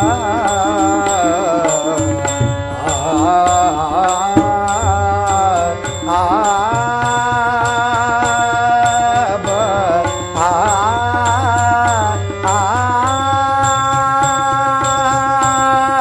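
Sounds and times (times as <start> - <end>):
harmonium chords: 0.0 - 16.0
man singing: 0.0 - 16.0.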